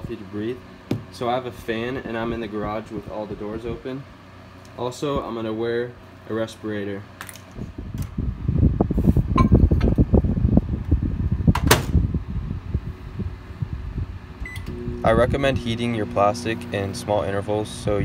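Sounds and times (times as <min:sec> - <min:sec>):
fan airflow rumble on microphone: 0:00.0 - 0:18.0.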